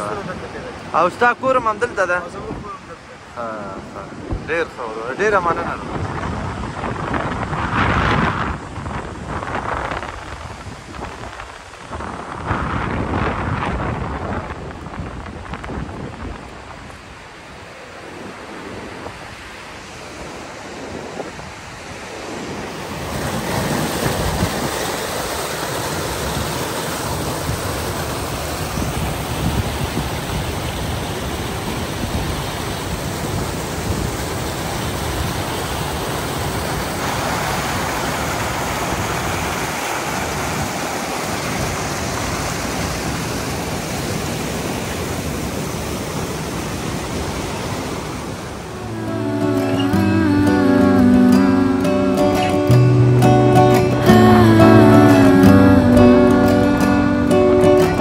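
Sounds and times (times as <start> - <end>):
stream rushing over boulders: 0.0 - 58.0.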